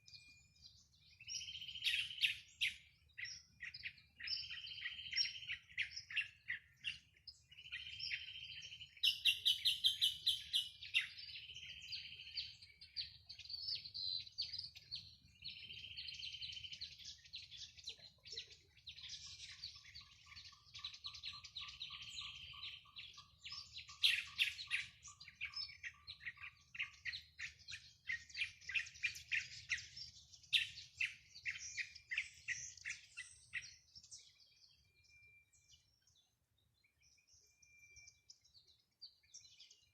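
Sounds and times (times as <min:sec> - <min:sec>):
low steady bird trill: 0:00.0 - 0:39.9
wild birds singing and calling: 0:00.0 - 0:39.9.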